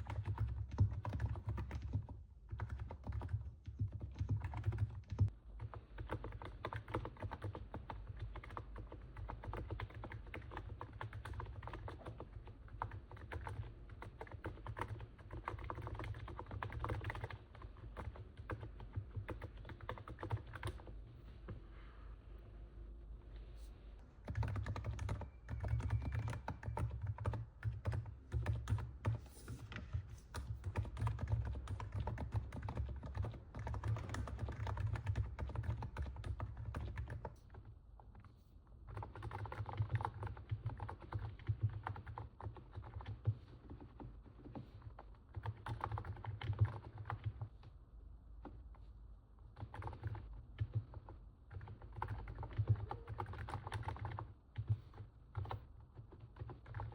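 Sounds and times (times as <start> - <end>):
keyboard typing: 0.0 - 21.6, 24.2 - 37.7, 38.9 - 47.5, 49.5 - 56.9.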